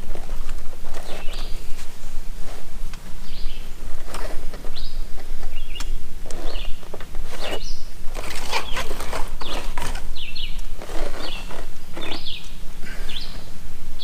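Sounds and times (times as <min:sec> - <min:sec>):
clicks and scrapes: 0:00.0 - 0:03.0, 0:03.8 - 0:12.5
small birds chirping: 0:00.0 - 0:14.0
steady low hum: 0:00.0 - 0:14.0.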